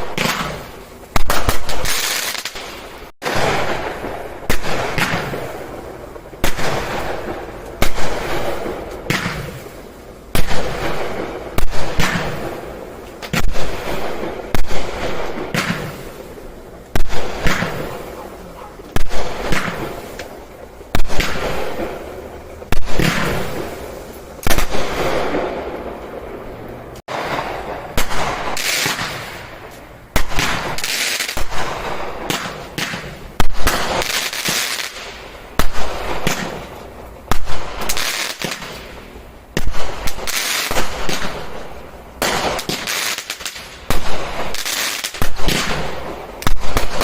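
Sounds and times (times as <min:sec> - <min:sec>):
fireworks banging: 0:00.0 - 0:47.0.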